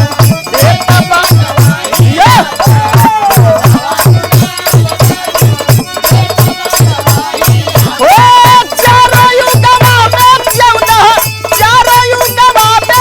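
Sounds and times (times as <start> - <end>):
drum beat: 0.0 - 13.0
jingling percussion: 0.0 - 13.0.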